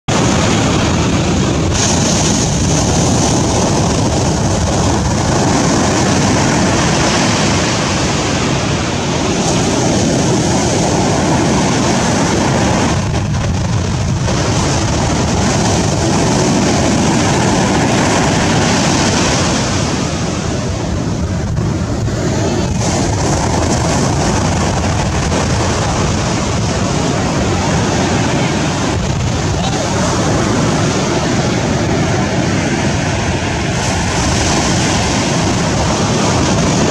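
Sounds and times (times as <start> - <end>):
ocean surf washing: 0.1 - 36.9.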